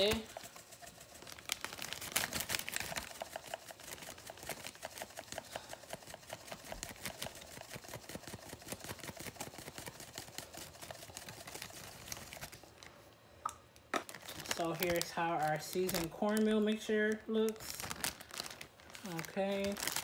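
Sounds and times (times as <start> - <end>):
dried herbs ticking into plastic bag: 0.0 - 12.6, 13.8 - 20.0.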